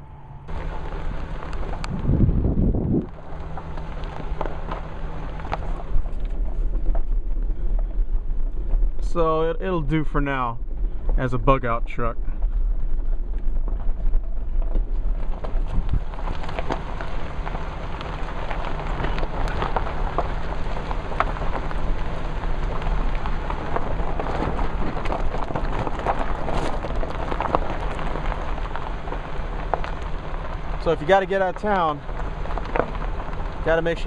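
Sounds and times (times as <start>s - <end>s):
truck engine running low: 0.0s - 34.0s
tyres crunching over gravel: 0.5s - 34.0s.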